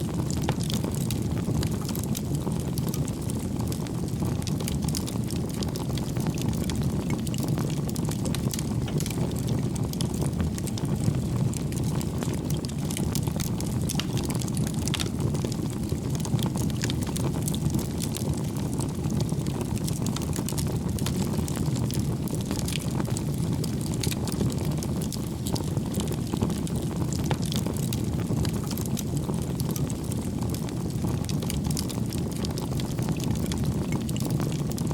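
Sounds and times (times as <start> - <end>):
wood fire rushing flame: 0.0 - 34.9
logs crackling and popping: 0.1 - 34.9.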